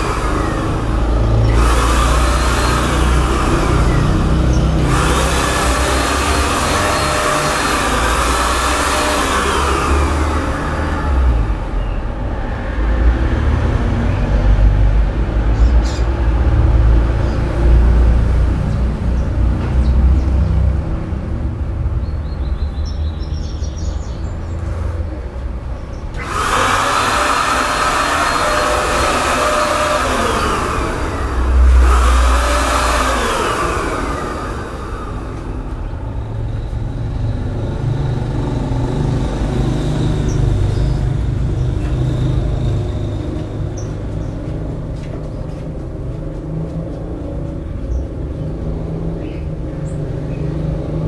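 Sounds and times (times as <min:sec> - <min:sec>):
motor vehicles passing: 0:00.0 - 0:51.0.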